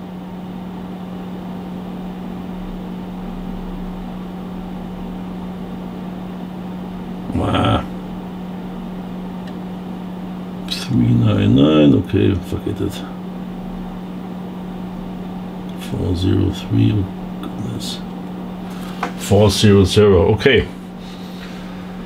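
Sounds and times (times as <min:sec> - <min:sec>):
equipment hum and fan hiss: 0:00.0 - 0:22.0.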